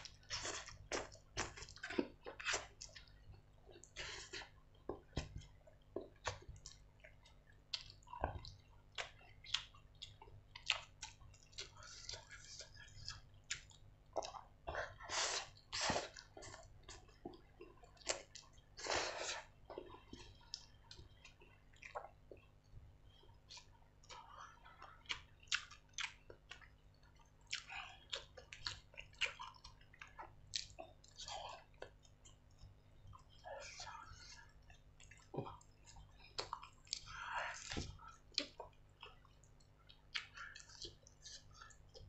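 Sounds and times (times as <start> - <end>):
wet chewing and smacking: 0.0 - 42.0.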